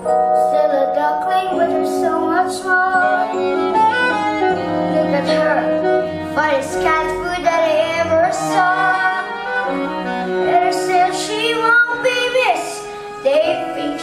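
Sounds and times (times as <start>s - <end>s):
sustained string-like notes: 1.3s - 14.0s.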